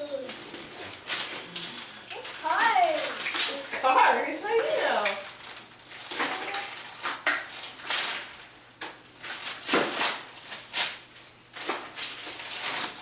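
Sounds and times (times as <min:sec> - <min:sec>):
wrapping paper tearing and crinkling: 0:00.0 - 0:13.0.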